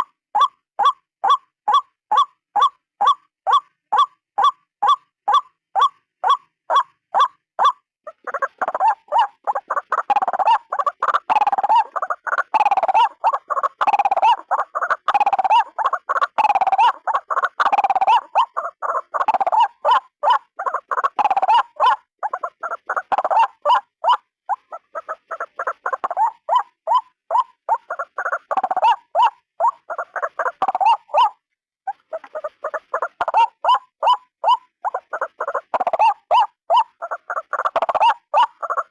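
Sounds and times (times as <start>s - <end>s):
waterhen croaking calls: 0.0s - 38.9s.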